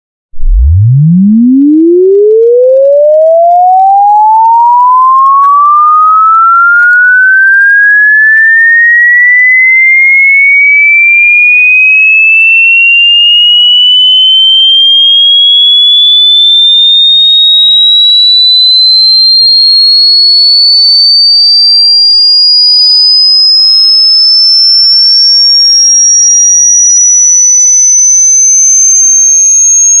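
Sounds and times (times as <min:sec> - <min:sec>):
rising sine-wave sweep: 0:00.3 - 0:20.7, 0:23.0 - 0:30.0.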